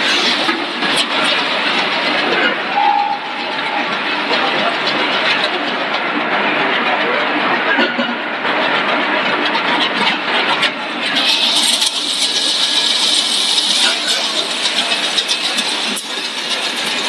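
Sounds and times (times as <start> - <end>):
machinery running with dense rattle: 0.0 - 17.0.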